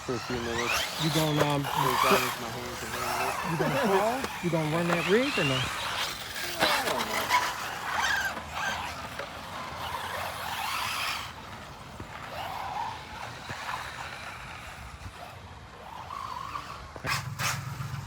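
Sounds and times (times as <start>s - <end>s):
electric motors whining: 0.0s - 18.0s
tyres skidding: 0.0s - 18.0s.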